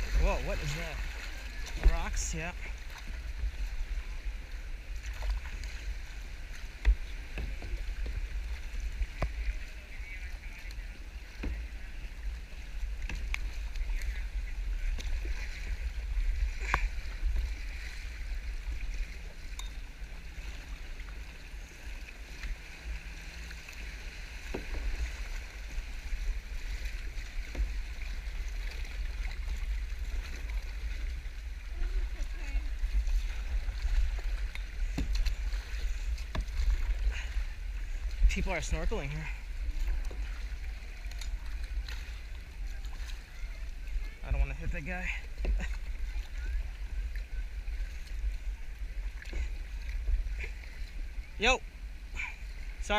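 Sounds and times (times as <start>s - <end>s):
paddle splashing and dripping: 0.0s - 52.9s.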